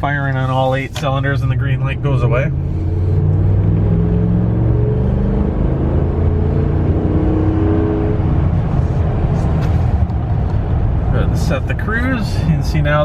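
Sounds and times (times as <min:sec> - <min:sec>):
truck engine accelerating: 0:00.0 - 0:13.0.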